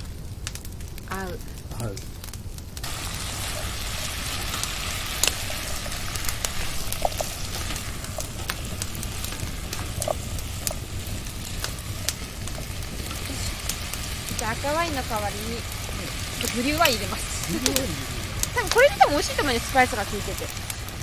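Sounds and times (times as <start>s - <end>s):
food sizzling in a pot: 2.8s - 21.0s
sharp pops: 3.5s - 20.8s.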